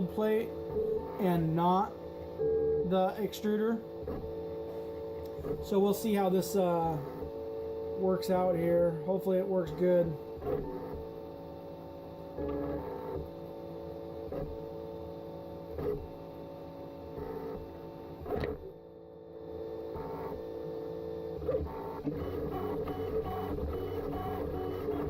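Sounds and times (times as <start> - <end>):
printer stepper motors whining: 0.0 - 18.8, 19.5 - 25.0.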